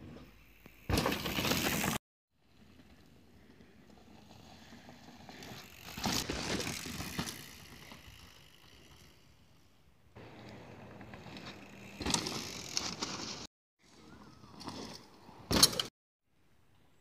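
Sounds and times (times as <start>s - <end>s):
bicycle tyres rolling on dirt: 0.0s - 15.8s.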